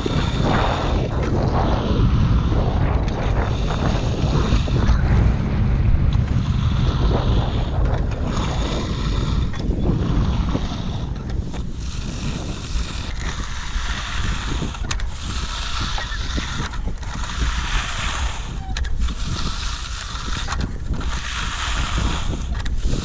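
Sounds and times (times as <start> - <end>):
strong wind buffeting microphone: 0.0 - 23.0.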